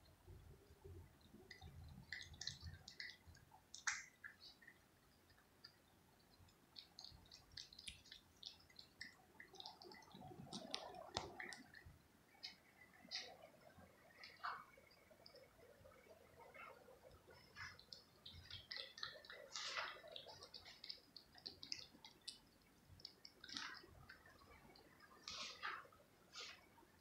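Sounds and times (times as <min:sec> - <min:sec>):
cat chewing and licking: 0:01.3 - 0:26.9.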